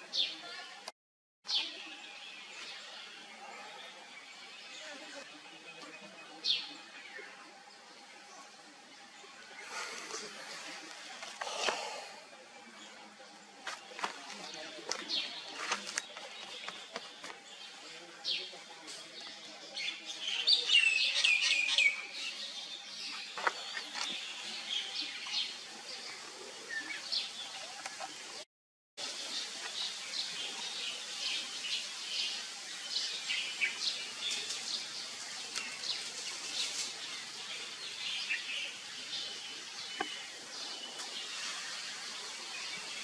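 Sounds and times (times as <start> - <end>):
forest birds chirping: 1.5 - 28.4, 29.0 - 43.0.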